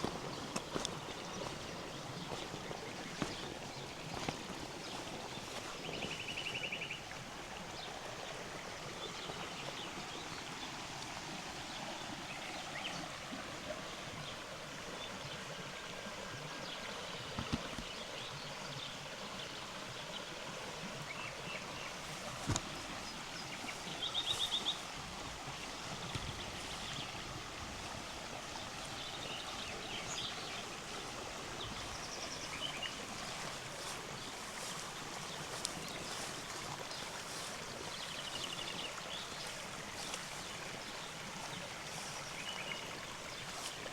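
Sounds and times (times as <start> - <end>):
river running over stones: 0.0 - 43.9.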